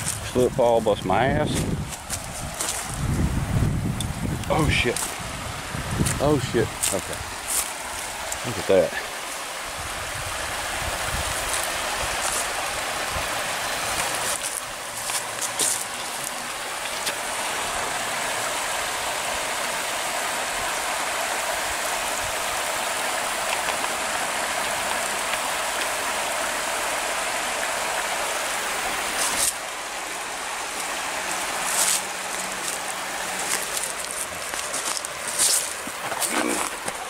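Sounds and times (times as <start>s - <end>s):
water rushing: 0.0s - 37.0s.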